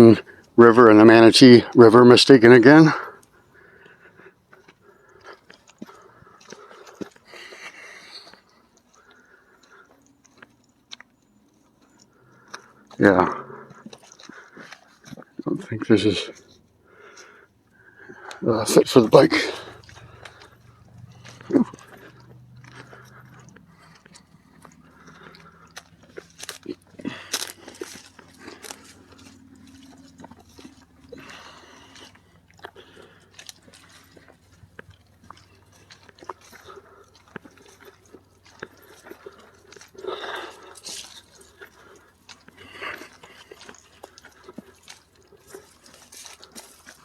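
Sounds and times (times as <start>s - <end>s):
footsteps crunching on trail: 2.8s - 47.0s.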